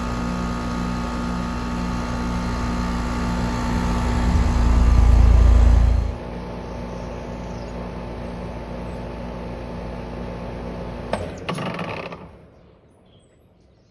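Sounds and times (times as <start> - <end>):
heat pump unit humming: 0.0 - 11.2.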